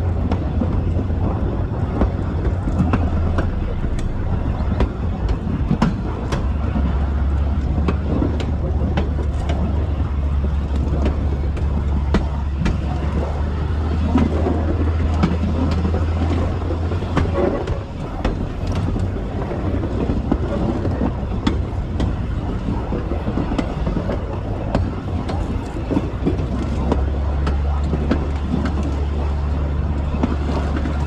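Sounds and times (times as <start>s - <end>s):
railcar engine drone: 0.0s - 31.0s
wheels clicking over rail joints: 0.0s - 31.0s.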